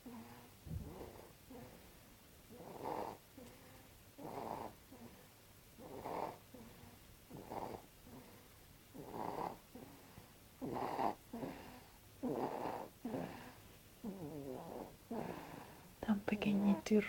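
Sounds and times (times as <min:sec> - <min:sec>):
baby snoring: 0:00.0 - 0:01.9, 0:02.5 - 0:16.9.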